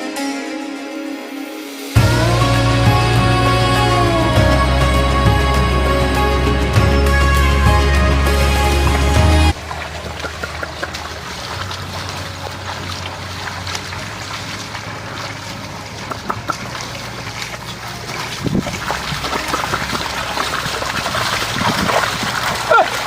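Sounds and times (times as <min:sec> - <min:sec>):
water trickling and splashing: 0:02.0 - 0:23.0.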